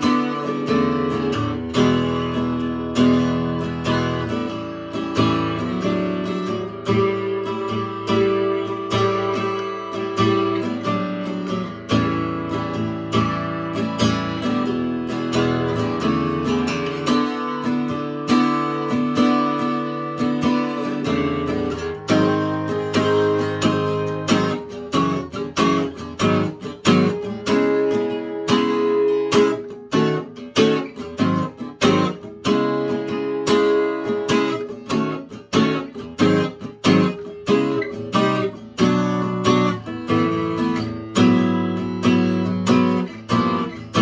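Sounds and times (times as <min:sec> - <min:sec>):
acoustic guitar strumming chords: 0:00.0 - 0:44.0.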